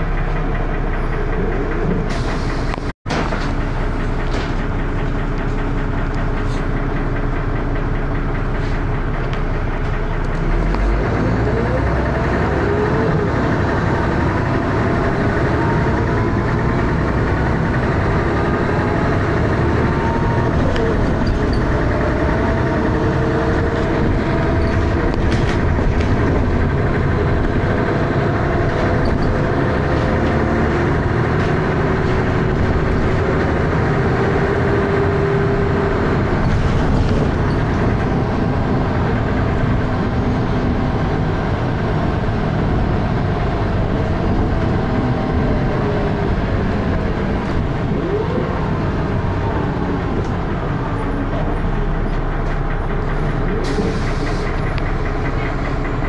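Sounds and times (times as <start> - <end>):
bus engine whining: 0.0 - 56.0.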